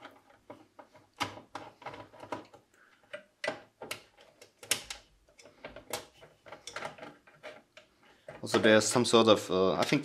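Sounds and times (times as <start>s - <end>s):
clicks and knocks in metal case: 0.0s - 9.1s.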